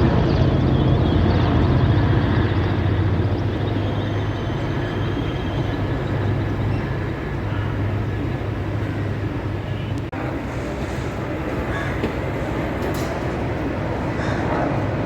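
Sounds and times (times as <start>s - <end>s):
helicopter engine noise: 0.0s - 15.0s
helicopter rotor chopping: 0.0s - 15.0s.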